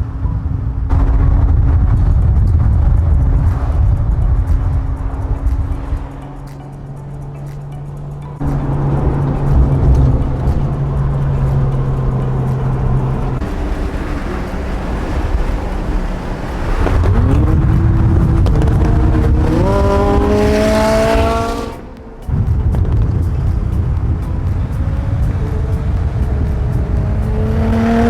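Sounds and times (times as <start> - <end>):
sports car engine accelerating: 0.0 - 28.0.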